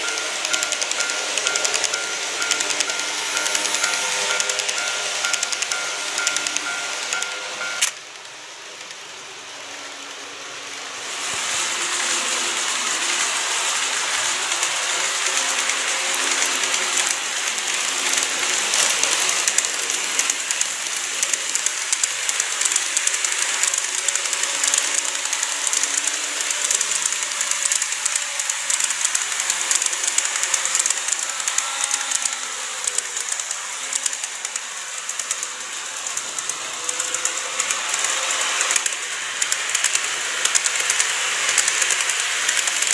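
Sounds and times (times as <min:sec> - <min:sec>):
model train clicking rattle: 0:00.0 - 0:10.2, 0:11.0 - 0:42.9.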